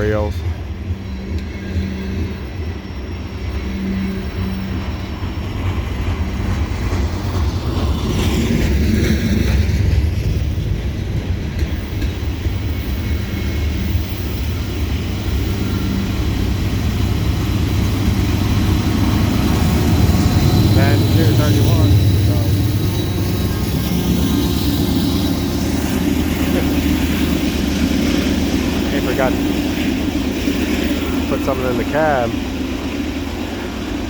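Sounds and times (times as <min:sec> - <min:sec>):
train cars rolling on rails: 0:00.0 - 0:34.0.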